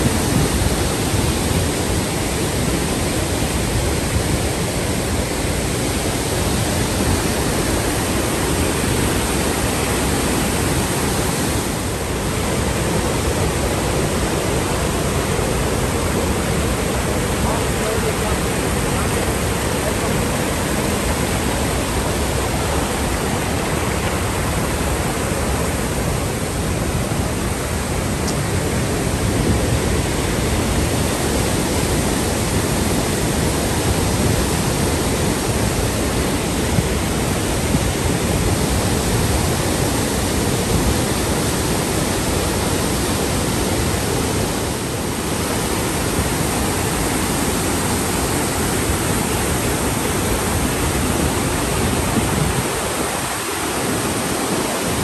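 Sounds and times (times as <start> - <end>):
whitewater rushing: 0.0 - 55.0.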